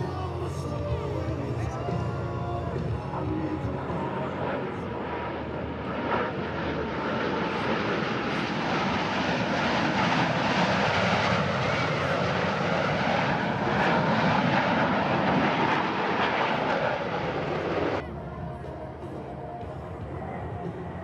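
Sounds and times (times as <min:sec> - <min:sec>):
jet planes flying by: 0:00.0 - 0:21.0.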